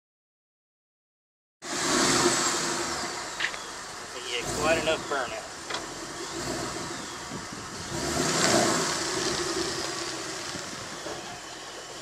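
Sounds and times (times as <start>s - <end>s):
car engine humming: 1.6s - 12.0s.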